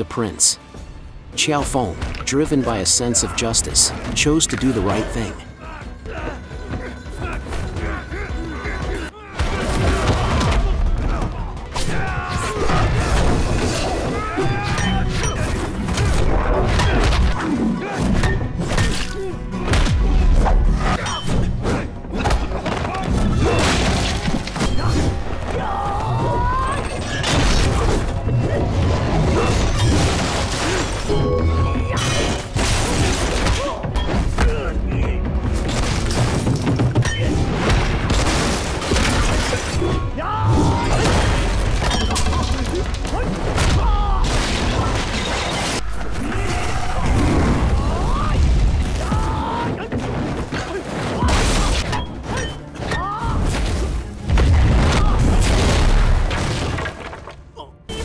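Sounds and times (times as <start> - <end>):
dramatic music: 0.0 - 58.0.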